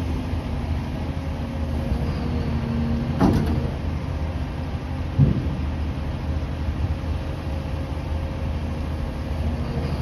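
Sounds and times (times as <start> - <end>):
excavator diesel engine running: 0.0 - 10.0
faint hydraulic whine: 0.0 - 10.0.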